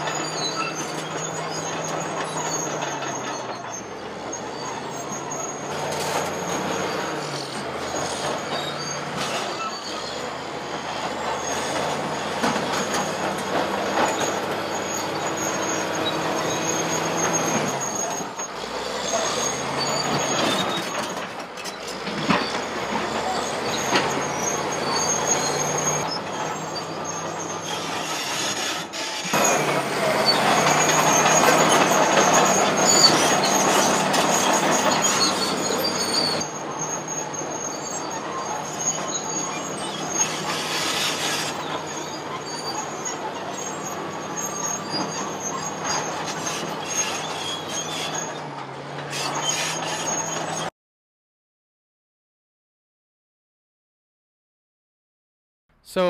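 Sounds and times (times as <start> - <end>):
bulldozer diesel engine: 0.0 - 50.7
steel tracks clanking and squealing: 0.0 - 50.7.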